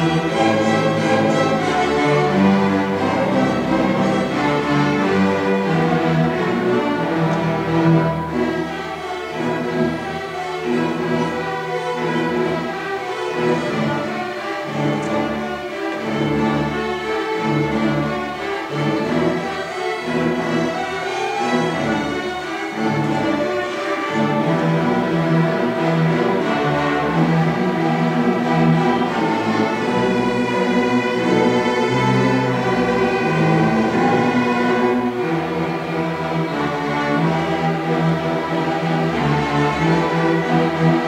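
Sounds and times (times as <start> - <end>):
string orchestra playing: 0.0 - 41.0.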